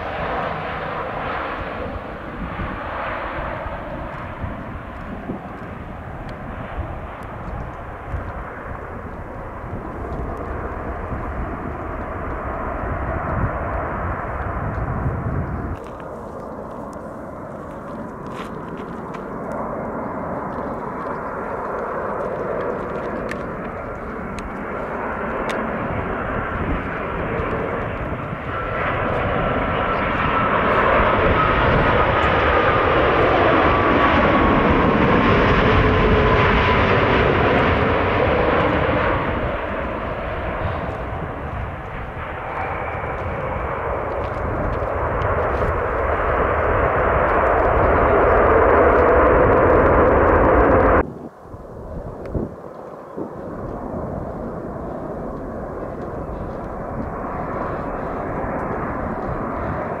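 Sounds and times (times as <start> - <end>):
distant airliner on approach: 0.0 - 60.0
jet engines passing low: 0.0 - 60.0.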